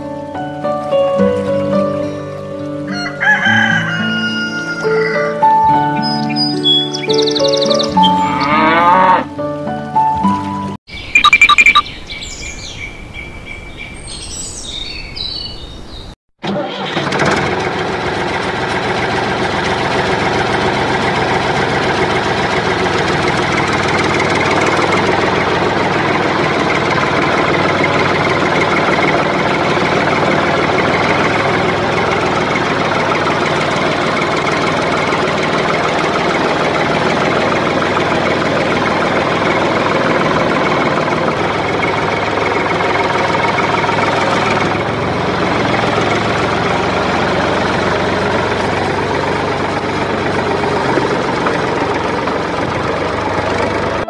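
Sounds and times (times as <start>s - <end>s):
tractor engine running: 0.0s - 8.6s, 9.3s - 54.0s.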